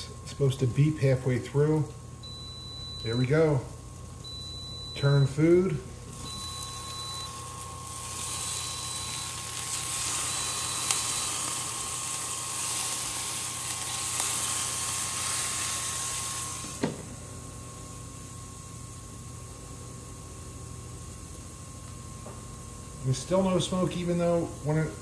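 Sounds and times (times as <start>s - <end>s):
steady grill whine: 0.0s - 25.0s
steak sizzling on a grill: 0.0s - 25.0s.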